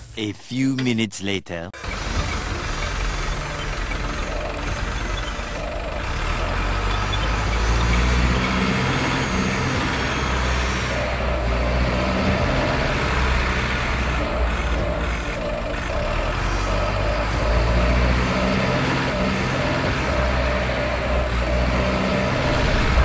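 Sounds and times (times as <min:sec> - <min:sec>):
diesel excavator engine running: 0:01.8 - 0:23.0.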